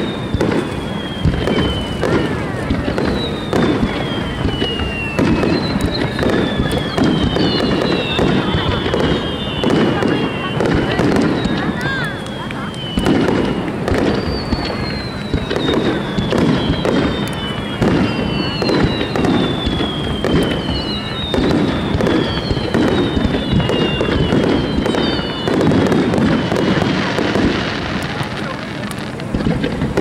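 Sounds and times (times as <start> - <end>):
fireworks booming bursts: 0.0 - 30.0
fireworks whistles sliding down: 0.0 - 30.0.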